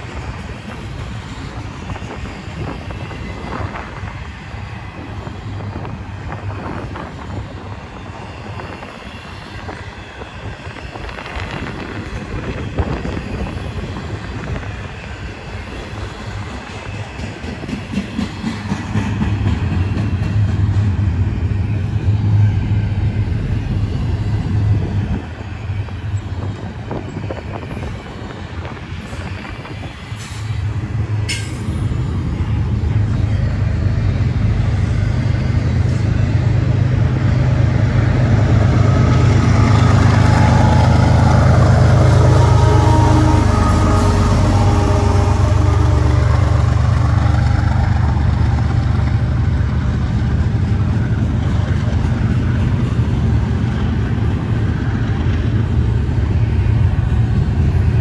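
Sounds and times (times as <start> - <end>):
deep diesel locomotive rumble: 0.0 - 58.0.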